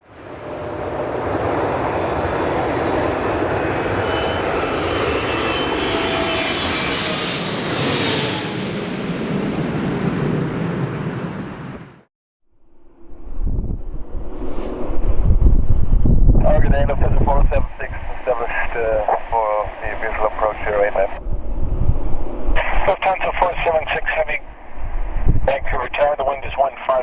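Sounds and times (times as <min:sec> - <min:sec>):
jet airliner passing: 0:00.0 - 0:12.1, 0:12.7 - 0:27.0.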